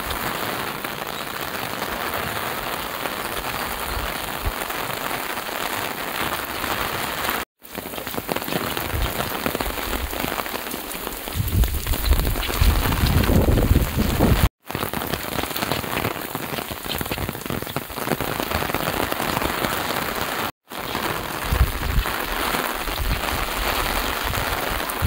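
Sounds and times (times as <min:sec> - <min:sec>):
rain falling on standing water: 0:00.0 - 0:25.0.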